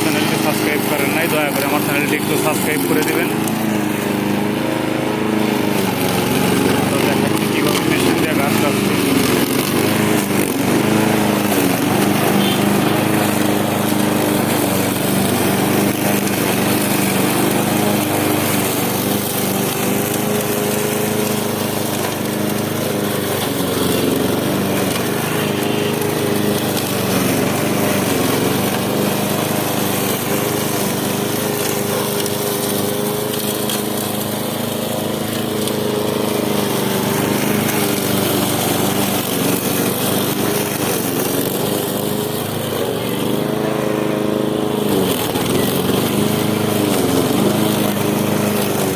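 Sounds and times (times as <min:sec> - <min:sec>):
lawnmower engine cutting grass: 0:00.0 - 0:48.9.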